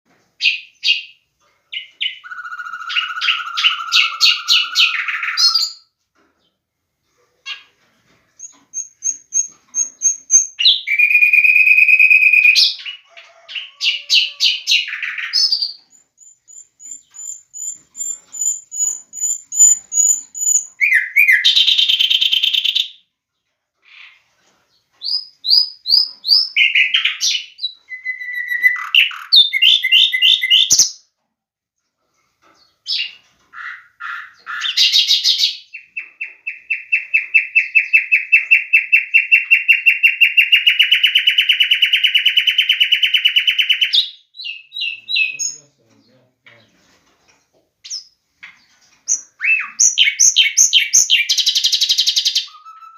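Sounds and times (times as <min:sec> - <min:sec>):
lovebirds chirping: 0:00.4 - 0:06.6, 0:07.5 - 0:31.1, 0:31.8 - 0:52.9.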